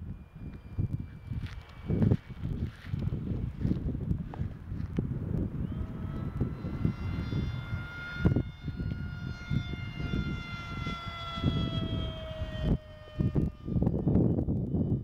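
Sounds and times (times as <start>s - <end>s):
electric propeller motor whining: 0.0s - 15.0s
wind rumble on microphone: 0.0s - 15.0s.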